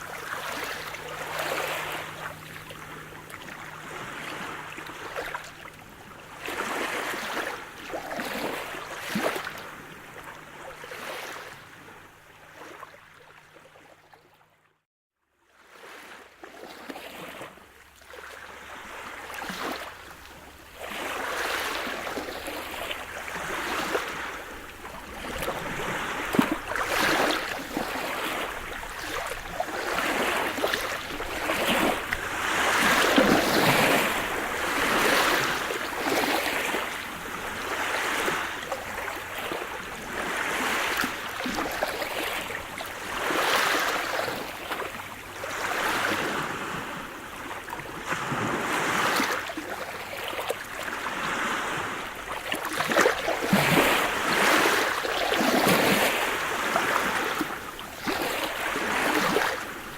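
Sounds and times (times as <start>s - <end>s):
waves breaking and washing in: 0.0s - 13.8s, 15.5s - 59.9s.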